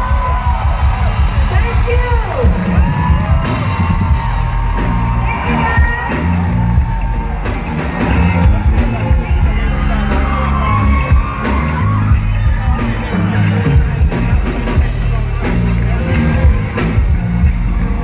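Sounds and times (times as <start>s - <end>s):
crowd yelling and whooping: 0.0s - 18.0s
live band playing r and b: 0.0s - 18.0s.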